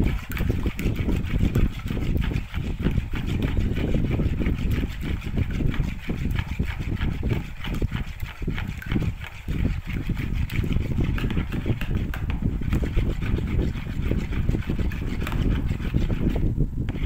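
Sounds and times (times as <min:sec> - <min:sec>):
spoon clinking and scraping bowl: 0:00.0 - 0:17.0.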